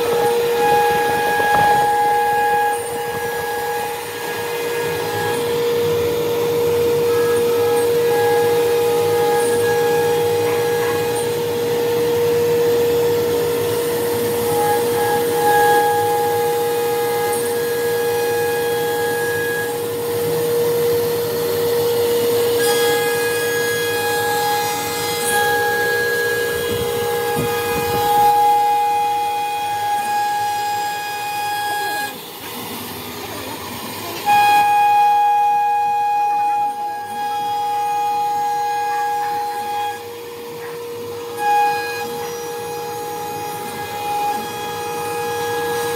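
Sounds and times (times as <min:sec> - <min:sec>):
router bit cutting wood: 0:00.0 - 0:45.9
router spindle whine: 0:00.0 - 0:45.9.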